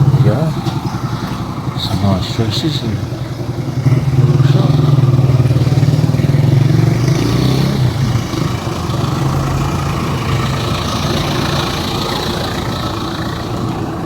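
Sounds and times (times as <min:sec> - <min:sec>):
motorcycle engine running: 0:00.0 - 0:14.0
street noise: 0:00.0 - 0:14.0.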